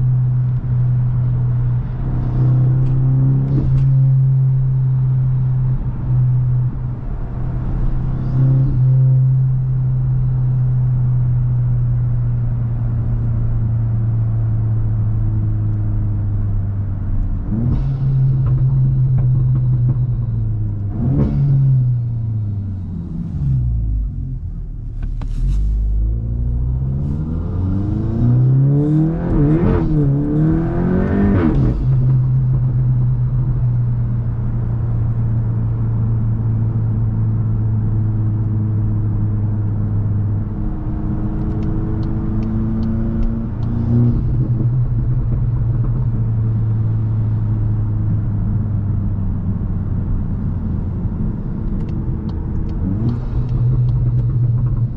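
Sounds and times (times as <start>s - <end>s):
car engine revving: 0.0s - 12.1s, 16.6s - 54.9s.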